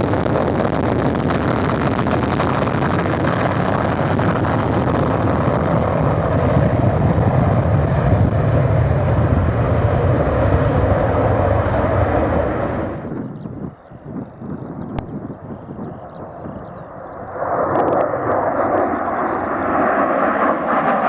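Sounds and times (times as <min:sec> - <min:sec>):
loud jet engine noise: 0:00.0 - 0:21.0.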